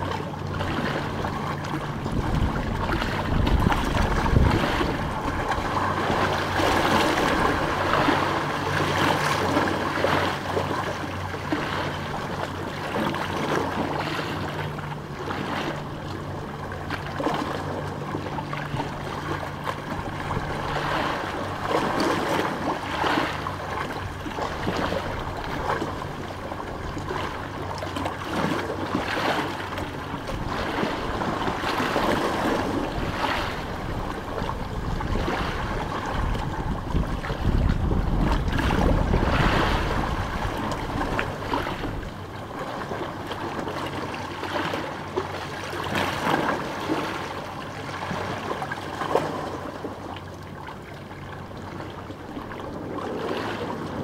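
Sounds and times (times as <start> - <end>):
waves splashing on stony shore: 0.0 - 49.8, 52.7 - 54.0
steady low hum: 0.0 - 54.0.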